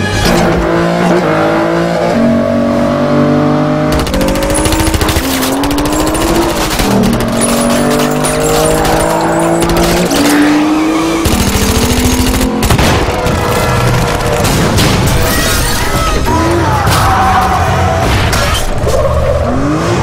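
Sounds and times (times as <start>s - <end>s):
car engines revving: 0.0s - 15.3s, 16.1s - 20.0s.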